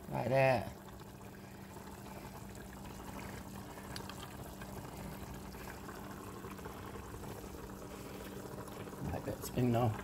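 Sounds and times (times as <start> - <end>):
low steady hum: 0.0 - 10.0
pots simmering: 0.0 - 10.0.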